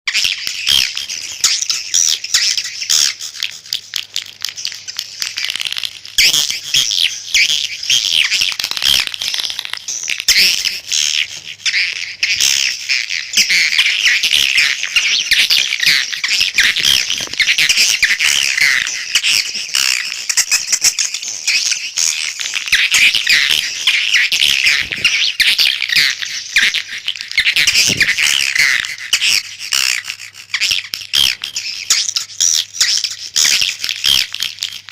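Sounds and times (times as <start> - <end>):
swiftlets twittering chorus: 0.1 - 34.2.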